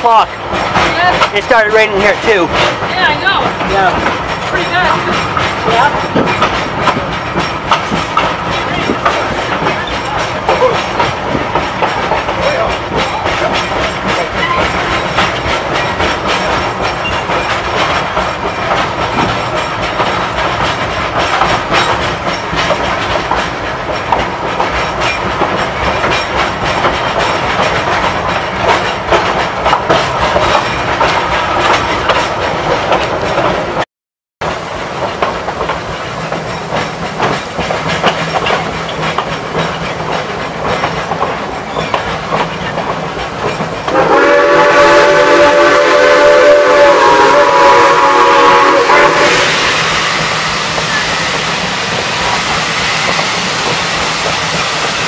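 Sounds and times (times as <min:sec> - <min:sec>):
train wheels clicking over rail joints: 0:00.0 - 0:33.8, 0:34.4 - 0:55.0
train running noise: 0:00.0 - 0:55.0.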